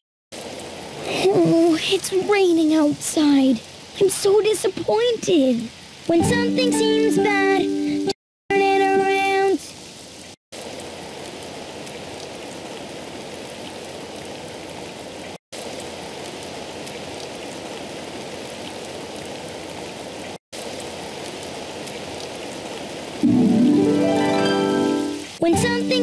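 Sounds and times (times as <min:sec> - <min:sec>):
rain hissing: 0:00.3 - 0:26.0.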